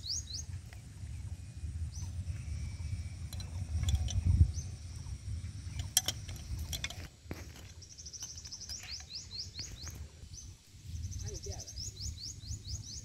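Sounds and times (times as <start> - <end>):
low outdoor rumble: 0.0 - 13.0
small bird chirping: 0.0 - 13.0.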